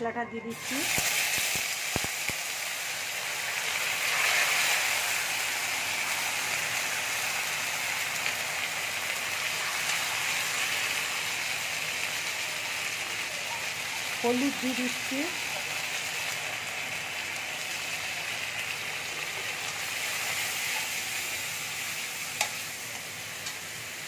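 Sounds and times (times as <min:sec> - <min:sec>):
paste sizzling in hot oil: 0:00.5 - 0:24.0.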